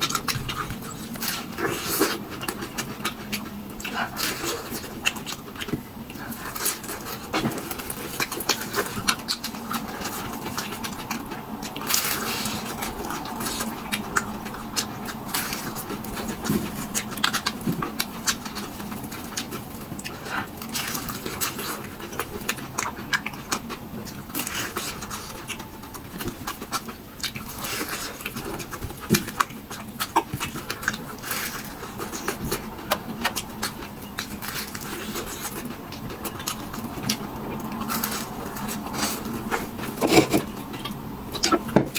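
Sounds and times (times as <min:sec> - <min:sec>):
chewing and mouth sounds: 0:00.0 - 0:41.9.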